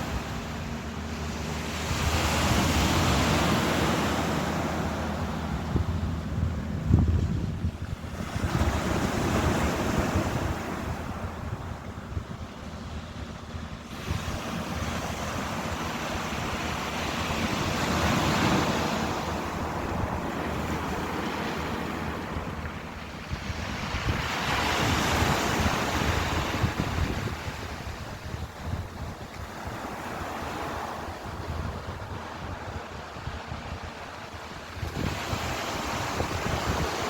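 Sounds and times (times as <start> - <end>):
ocean waves washing in: 0.0 - 37.0.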